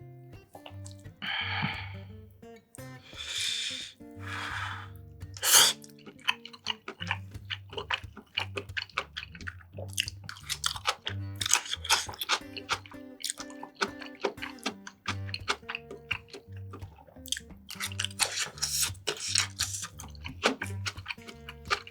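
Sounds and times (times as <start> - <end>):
quiet background music: 0.0 - 21.9
wet chewing and crunching: 0.5 - 2.0, 4.2 - 21.9
loud bite: 3.1 - 21.9.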